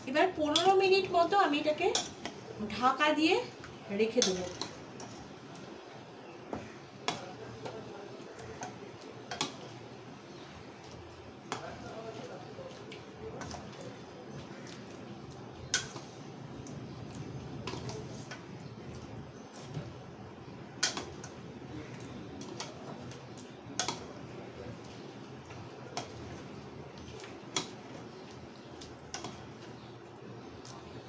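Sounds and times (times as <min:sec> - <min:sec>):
low background noise: 0:00.0 - 0:31.0
spoon stirring thick curry: 0:00.2 - 0:02.8, 0:03.6 - 0:31.0.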